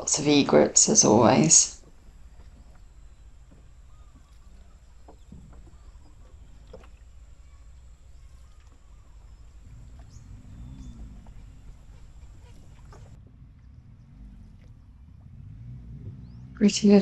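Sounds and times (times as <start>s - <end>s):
bird calls: 0.0s - 13.8s
rowing boat rumble: 0.0s - 17.0s.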